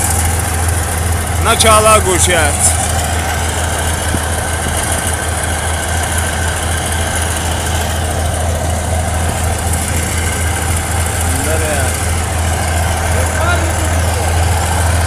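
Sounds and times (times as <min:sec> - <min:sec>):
heavy vehicle engine droning: 0:00.0 - 0:15.0.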